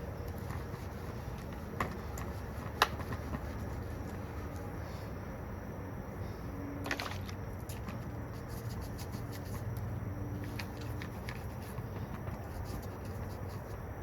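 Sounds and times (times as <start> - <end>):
steady low hum: 0.0 - 14.0
small scratches and clicks: 0.2 - 4.7, 6.9 - 13.9.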